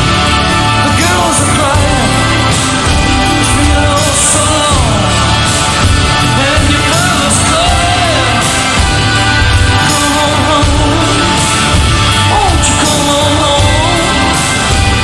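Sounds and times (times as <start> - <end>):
celtic-style music: 0.0 - 15.0.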